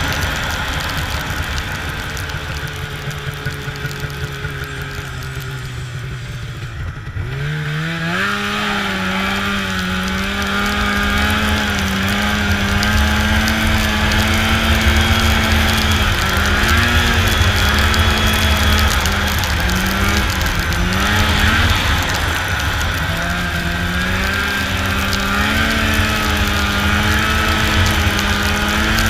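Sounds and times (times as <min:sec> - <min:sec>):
snowmobile engine: 0:00.0 - 0:29.0.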